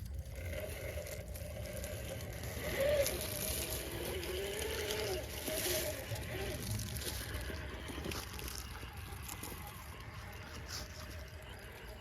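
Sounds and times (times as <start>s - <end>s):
toy car electric motor whining: 0.0s - 12.0s.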